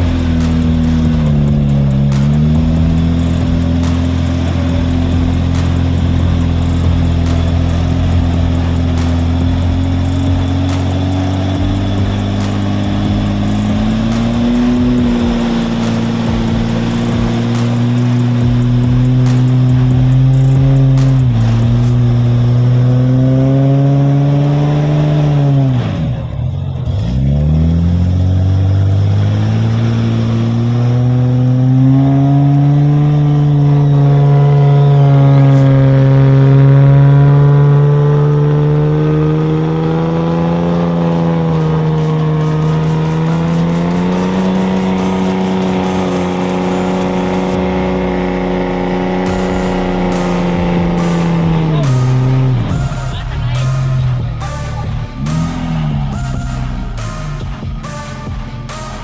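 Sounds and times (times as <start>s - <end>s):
off-road engine revving hard: 0.0s - 59.0s.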